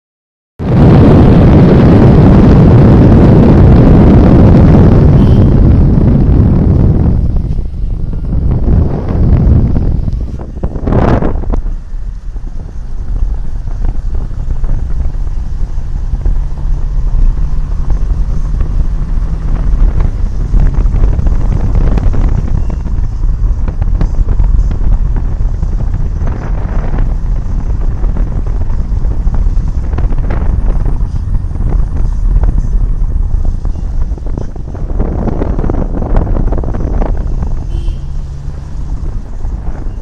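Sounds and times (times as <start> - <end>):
car engine and road noise: 0.6 - 40.0
low hum: 0.6 - 40.0
wind buffeting microphone: 0.6 - 40.0.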